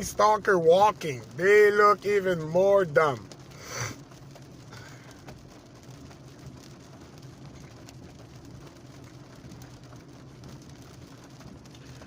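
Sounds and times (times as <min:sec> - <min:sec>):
rain hiss: 0:00.0 - 0:12.0
raindrops ticking: 0:00.0 - 0:12.0.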